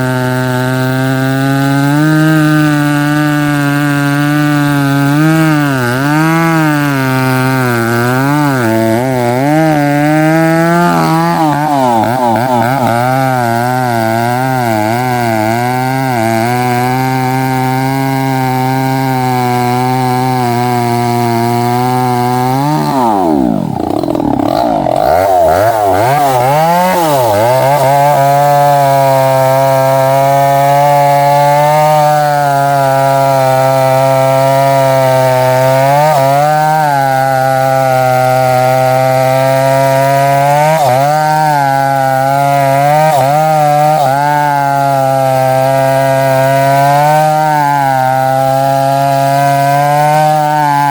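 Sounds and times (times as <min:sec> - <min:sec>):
chainsaw cutting tree trunk: 0:00.0 - 0:50.9.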